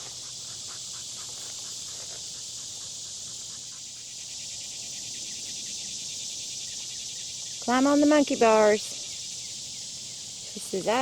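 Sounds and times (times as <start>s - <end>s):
fast pulsed chirping: 0.0s - 11.0s
insects droning: 0.0s - 11.0s.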